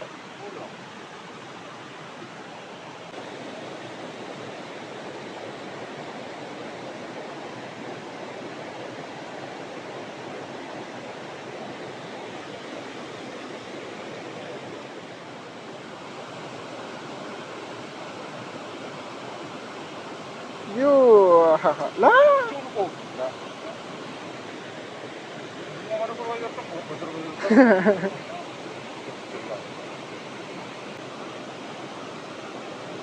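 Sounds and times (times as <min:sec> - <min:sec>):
river water flowing: 0:00.0 - 0:33.0.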